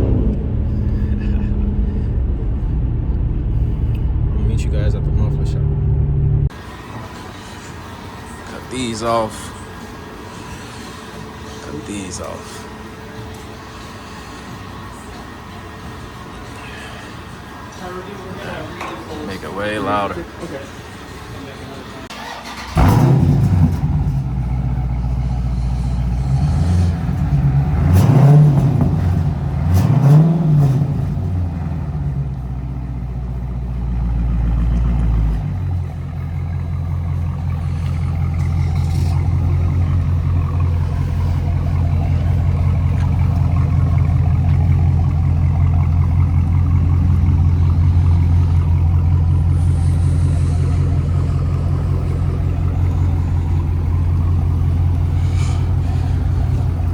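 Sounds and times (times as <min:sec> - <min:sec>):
loud lumpy engine idle: 0:00.0 - 0:05.8, 0:06.5 - 0:56.9
loud car engine starting and revving: 0:00.0 - 0:13.4, 0:22.0 - 0:56.9.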